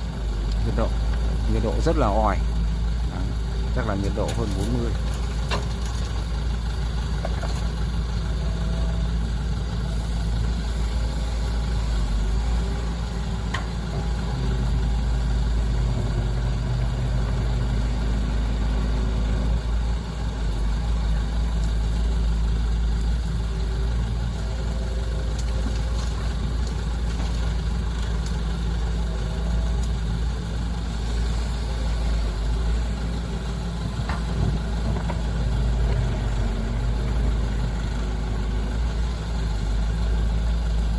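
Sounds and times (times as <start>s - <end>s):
heavy diesel engines running: 0.0s - 40.9s.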